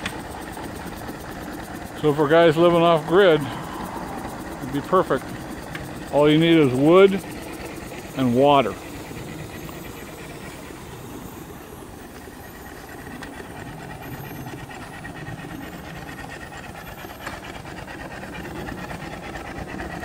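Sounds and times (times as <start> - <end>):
steam engine exhaust puffing: 0.0 - 20.0.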